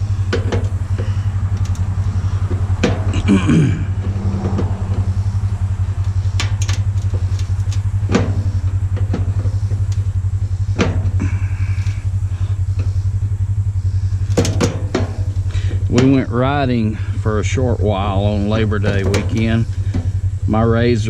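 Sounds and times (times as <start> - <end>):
small engine droning: 0.0 - 21.0.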